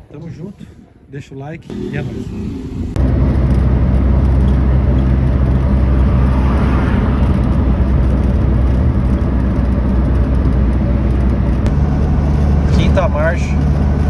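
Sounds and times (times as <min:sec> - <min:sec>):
car engine cruising: 0:01.6 - 0:14.0
road noise: 0:01.6 - 0:14.0.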